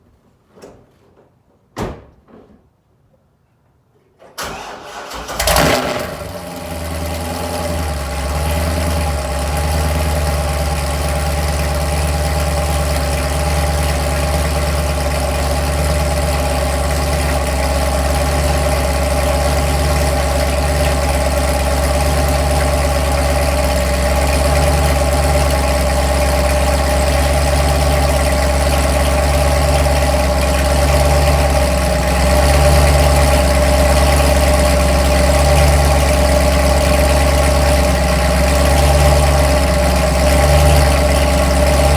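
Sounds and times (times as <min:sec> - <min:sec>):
car engine cold start and idle: 0:04.3 - 0:41.9.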